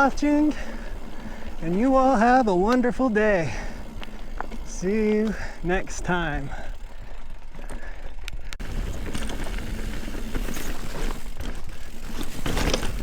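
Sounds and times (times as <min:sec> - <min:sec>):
bike rattling over bumps: 0:00.0 - 0:13.0
bike tyres on dirt: 0:00.0 - 0:13.0.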